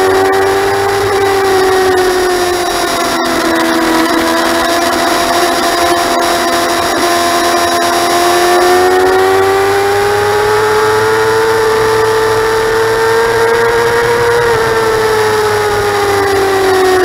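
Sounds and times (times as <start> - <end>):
motorcycle engine whine: 0.0 - 17.0.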